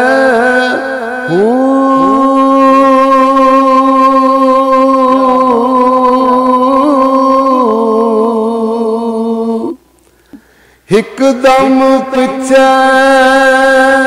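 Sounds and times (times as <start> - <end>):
men singing: 0.0 - 8.3, 10.9 - 14.0.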